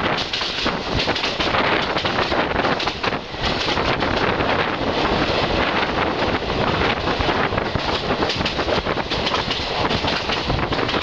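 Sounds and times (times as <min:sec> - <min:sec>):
rail clacks: 0:00.0 - 0:11.0
train wheels rumbling on rails: 0:00.0 - 0:11.0.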